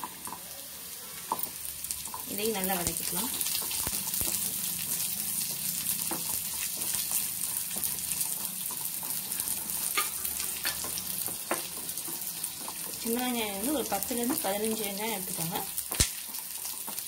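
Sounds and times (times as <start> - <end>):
food sizzling in hot oil: 0.0 - 17.0
spatula knocking and scraping pan: 1.3 - 17.0.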